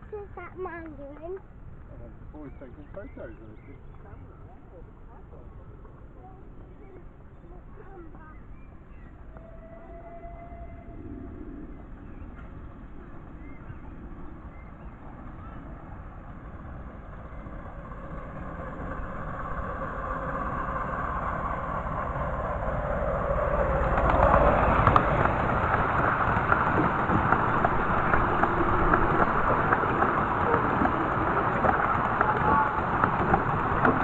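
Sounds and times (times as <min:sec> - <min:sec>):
miniature train passing: 0:00.0 - 0:34.0.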